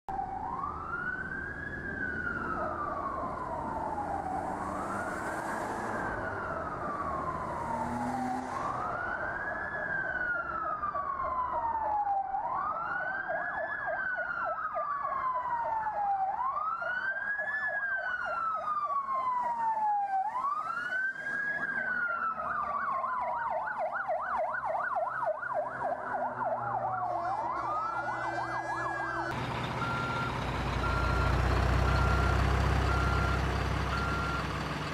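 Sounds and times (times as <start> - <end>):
fast warbling siren: 0.1 - 34.6
siren wailing: 0.1 - 34.9.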